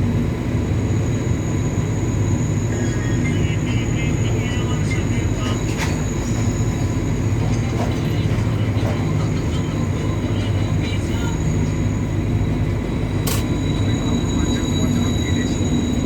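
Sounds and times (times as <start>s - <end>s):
electric locomotive rumble and whine: 0.0s - 16.0s.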